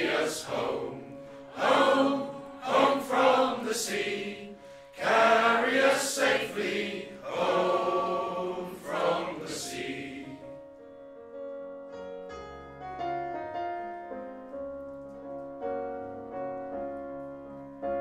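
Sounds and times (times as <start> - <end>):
piano playing: 0.0 - 18.0.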